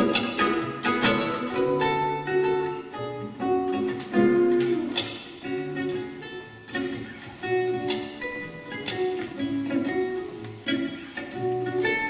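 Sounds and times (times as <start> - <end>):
fingerpicked classical guitar: 0.0 - 12.0.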